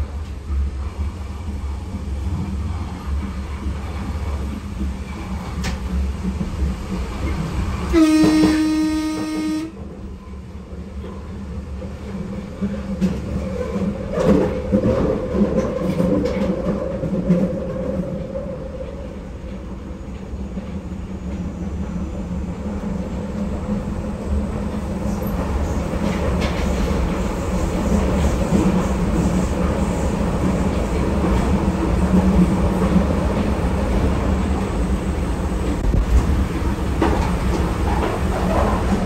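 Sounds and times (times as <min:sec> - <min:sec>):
train motors and wheels rumbling: 0:00.0 - 0:39.0.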